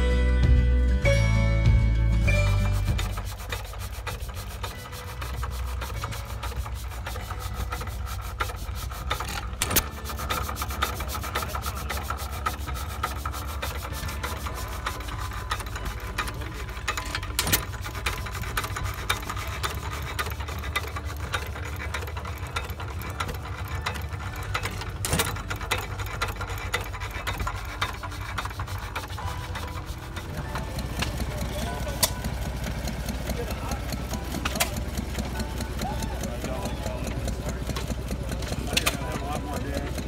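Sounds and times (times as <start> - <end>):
stationary engine clatter: 2.2 - 40.0.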